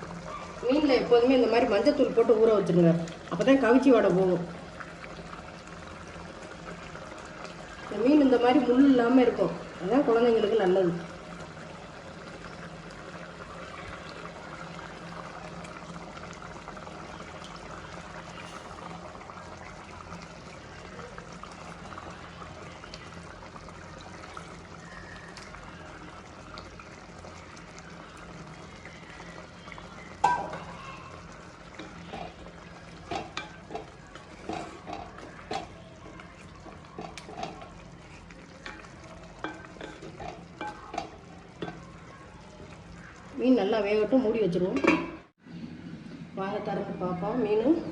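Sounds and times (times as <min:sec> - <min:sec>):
curry simmering in a pot: 0:00.0 - 0:47.9.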